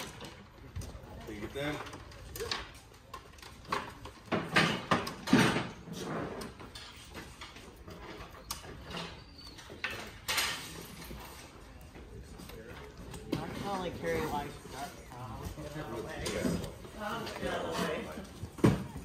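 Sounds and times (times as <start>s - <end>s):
knocks and clatter of supplies: 0.0s - 19.0s.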